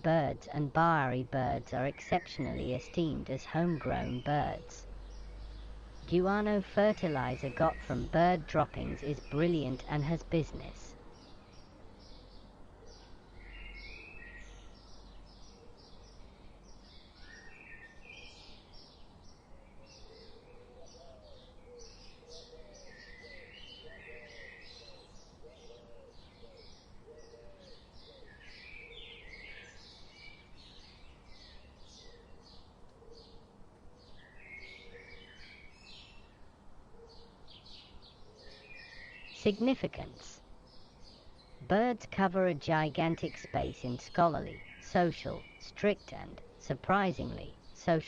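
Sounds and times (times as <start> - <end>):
birds chirping and twittering: 0.0 - 48.0.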